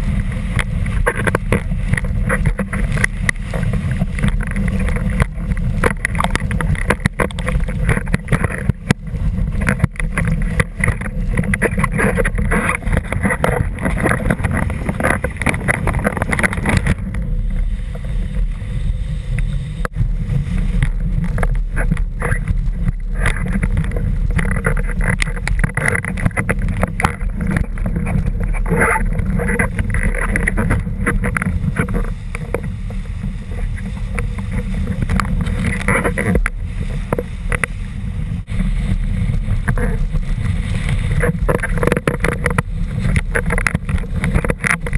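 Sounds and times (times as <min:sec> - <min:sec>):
water rushing and slapping: 0:00.0 - 0:44.9
wind rumble on microphone: 0:00.0 - 0:44.9.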